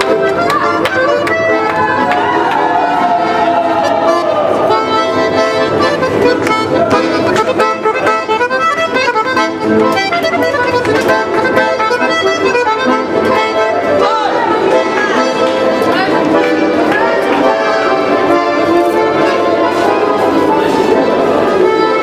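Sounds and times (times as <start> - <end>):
accordion playing chords: 0.0 - 22.0.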